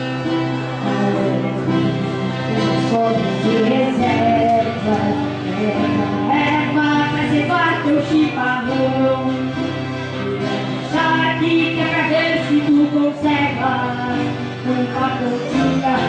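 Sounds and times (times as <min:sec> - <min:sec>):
person singing: 0:00.0 - 0:16.0.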